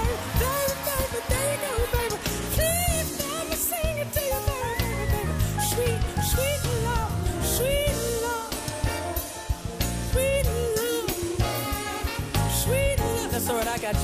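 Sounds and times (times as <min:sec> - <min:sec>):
band playing drums and bass: 0:00.0 - 0:14.0.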